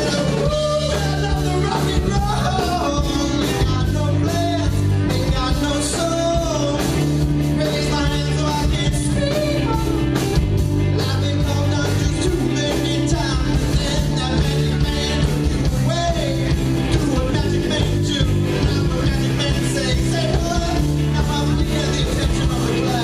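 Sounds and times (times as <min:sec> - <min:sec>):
lead vocal singing: 0:00.0 - 0:23.0
live rock band: 0:00.0 - 0:23.0.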